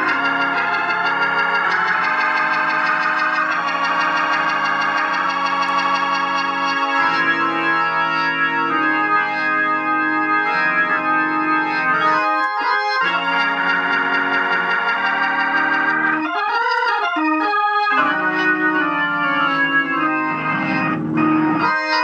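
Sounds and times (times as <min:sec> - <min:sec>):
organ playing held chords: 0:00.0 - 0:22.0.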